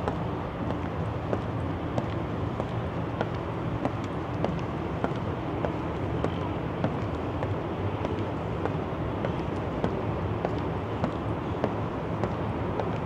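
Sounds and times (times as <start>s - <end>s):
footsteps on bridge deck: 0.0s - 13.0s
traffic hum: 0.0s - 13.0s.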